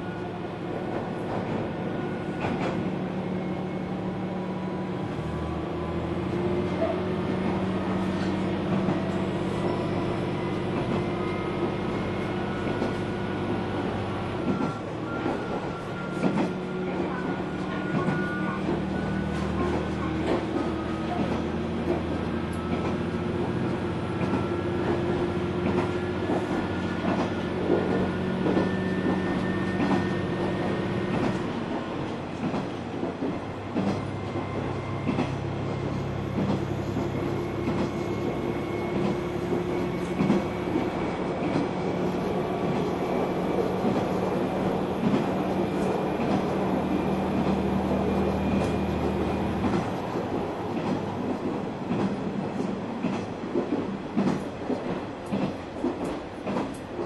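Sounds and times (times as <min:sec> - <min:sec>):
railcar engine running: 0:00.0 - 0:57.0.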